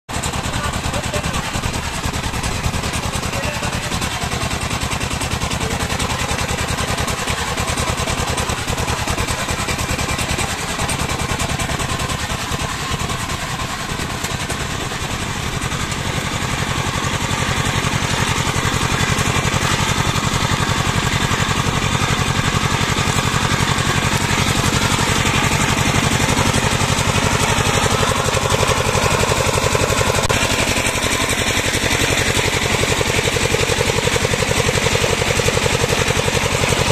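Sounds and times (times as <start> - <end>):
power tiller diesel engine running: 0.1 - 36.9.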